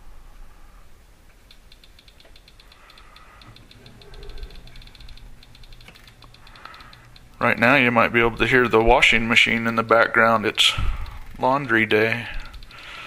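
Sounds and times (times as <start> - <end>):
click wheel ticking: 1.3 - 13.0.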